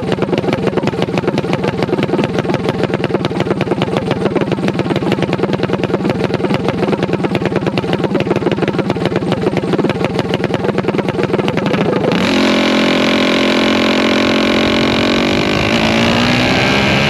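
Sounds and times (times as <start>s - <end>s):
small motorcycle engine idling: 0.0s - 17.0s.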